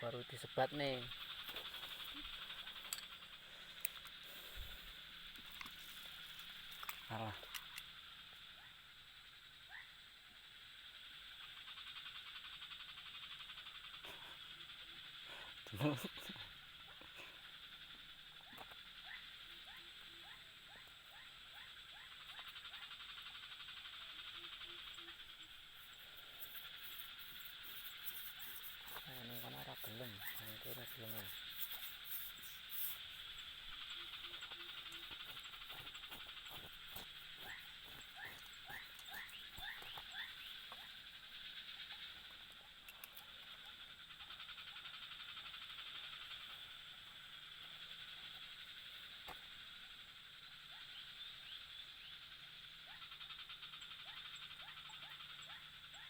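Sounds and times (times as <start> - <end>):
crickets chirping: 0.0 - 56.0
frog calling: 0.0 - 56.0
insects shrill hum: 0.0 - 56.0.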